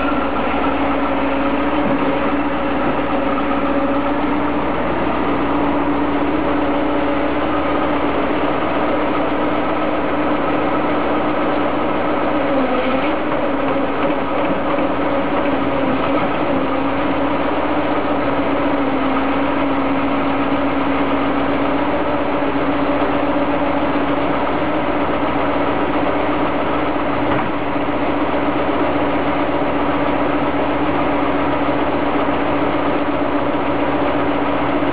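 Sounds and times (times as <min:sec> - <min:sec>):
excavator engine idling: 0:00.0 - 0:34.9.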